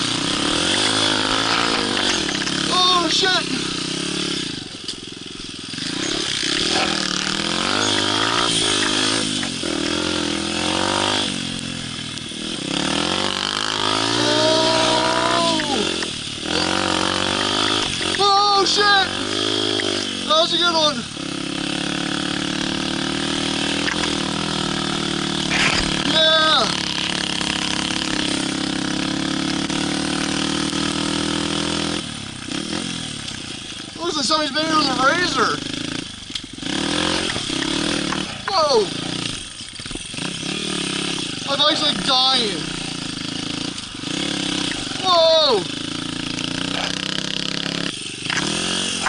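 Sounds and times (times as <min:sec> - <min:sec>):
small motorbike engine revving: 0:00.0 - 0:49.0.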